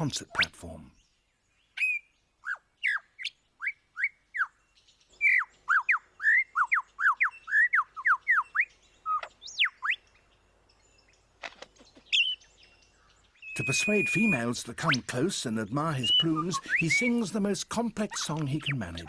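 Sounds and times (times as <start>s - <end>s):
lyrebird singing whistled notes: 1.8s - 10.2s, 12.1s - 19.0s.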